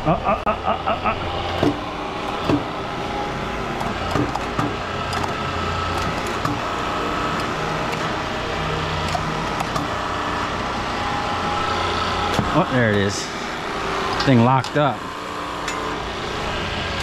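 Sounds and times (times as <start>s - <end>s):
hydraulic pump running: 0.0s - 17.0s.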